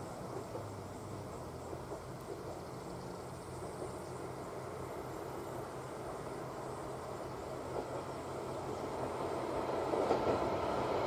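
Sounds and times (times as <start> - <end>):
diesel railcar engine hum: 0.0 - 11.0
rail rumble: 0.0 - 11.0.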